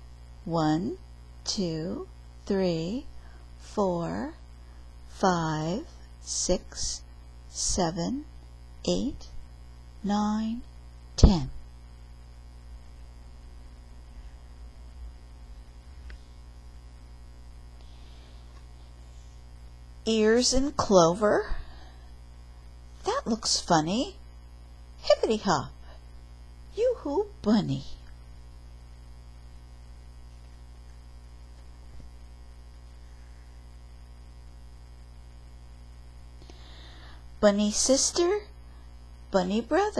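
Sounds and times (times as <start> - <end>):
low electrical mains hum: 0.0 - 39.9.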